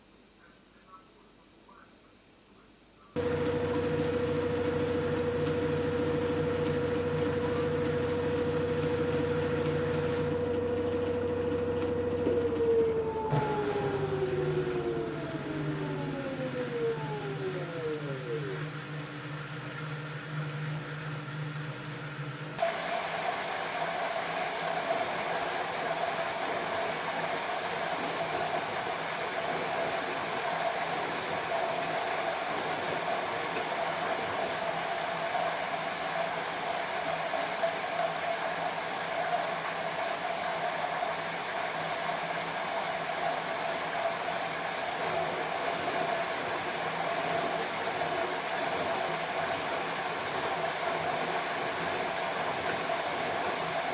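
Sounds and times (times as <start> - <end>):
washing machine motor whine: 3.2 - 53.9.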